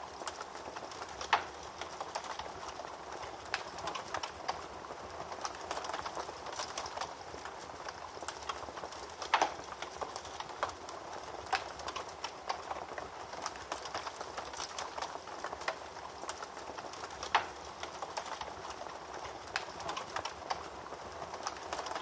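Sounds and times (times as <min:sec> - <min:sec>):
wood fire hissing: 0:00.0 - 0:22.0
fire pops and snaps: 0:00.1 - 0:22.0.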